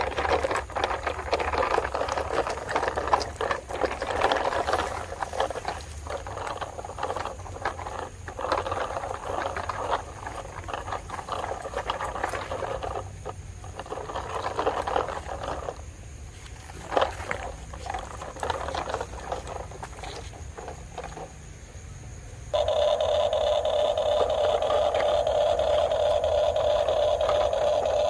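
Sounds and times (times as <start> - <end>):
model excavator clattering: 0.0 - 21.8, 22.5 - 28.0.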